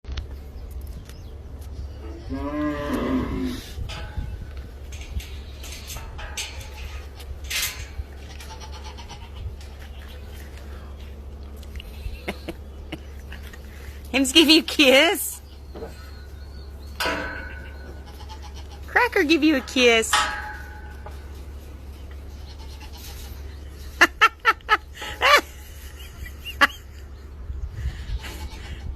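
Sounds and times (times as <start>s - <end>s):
steady low hum: 0.1s - 28.9s.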